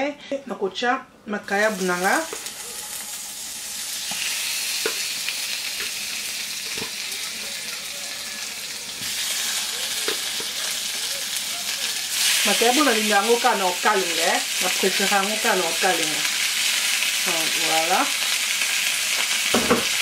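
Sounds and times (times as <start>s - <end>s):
fish sizzling in hot oil: 1.7s - 20.0s.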